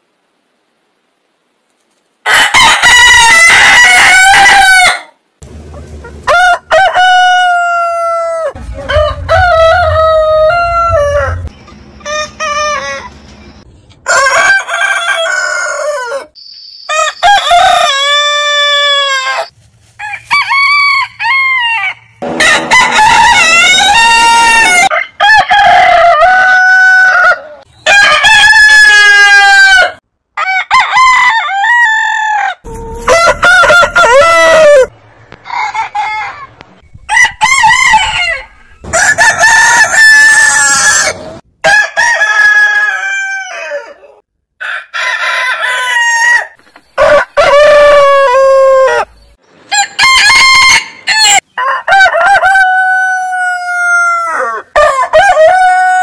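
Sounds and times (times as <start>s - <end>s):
roosters crowing: 2.3s - 5.2s, 6.2s - 13.3s, 14.0s - 56.0s.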